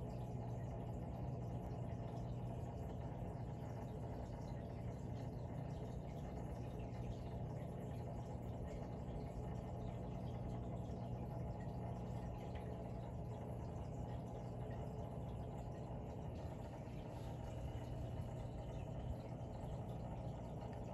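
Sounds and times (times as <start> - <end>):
aquarium pump hum: 0.0 - 20.9
water trickling: 0.0 - 20.9.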